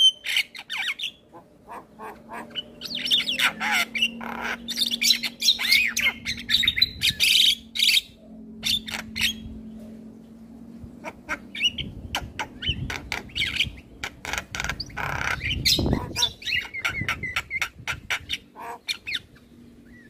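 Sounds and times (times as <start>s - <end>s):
bird singing varied song: 0.0s - 10.0s, 11.4s - 20.0s.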